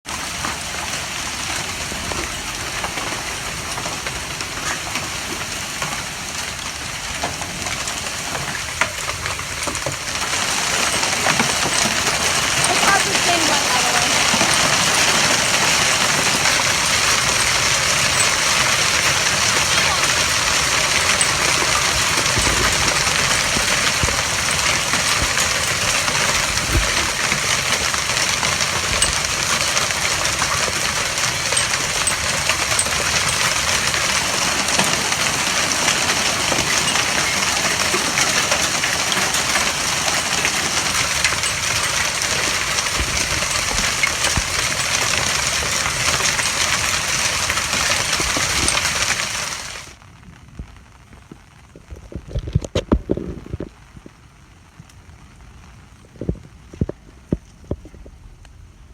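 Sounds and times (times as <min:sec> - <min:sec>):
heavy rain: 0:00.0 - 0:58.9
hailstones striking hard surfaces: 0:00.1 - 0:54.2.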